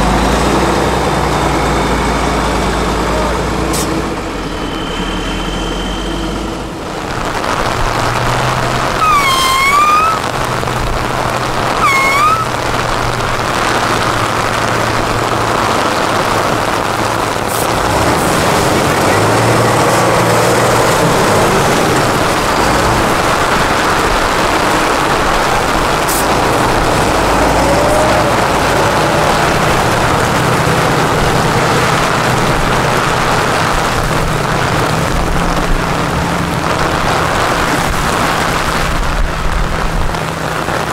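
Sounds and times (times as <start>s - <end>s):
truck diesel engine running: 0.0s - 40.9s
rain hissing: 6.3s - 40.9s.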